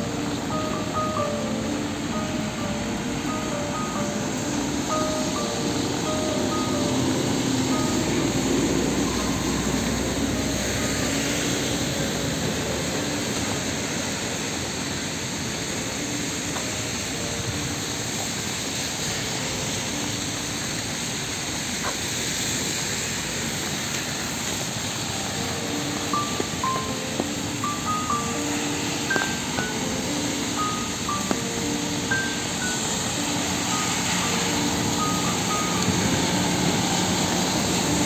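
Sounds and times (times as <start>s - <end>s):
faint music: 0.0s - 38.0s
steady rain: 0.0s - 38.0s
traffic on wet street: 0.0s - 38.0s.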